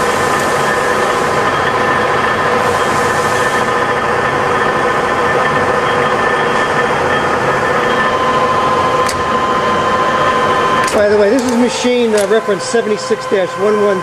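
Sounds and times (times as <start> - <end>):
milling machine hum and whine: 0.0 - 14.0.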